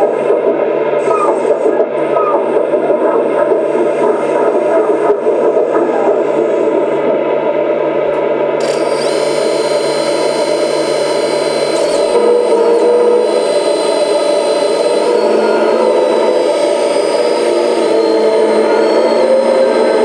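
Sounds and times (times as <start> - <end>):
hydraulic hiss and whine: 0.0 - 20.0
toy excavator engine sound: 1.0 - 7.0, 8.6 - 20.0.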